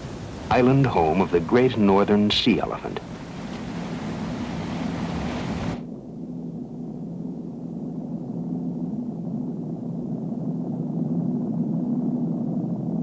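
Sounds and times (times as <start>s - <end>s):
low steady drone: 0.0s - 13.0s.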